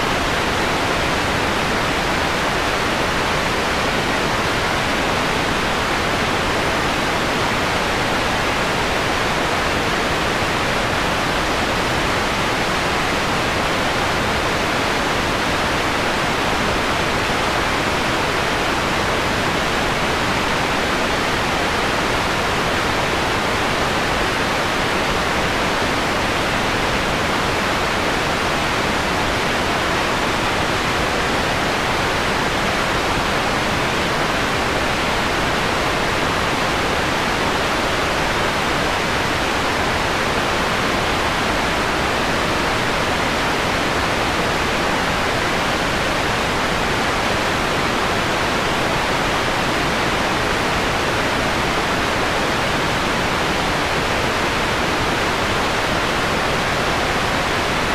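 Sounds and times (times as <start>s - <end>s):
filtered white noise hiss: 0.0s - 57.9s.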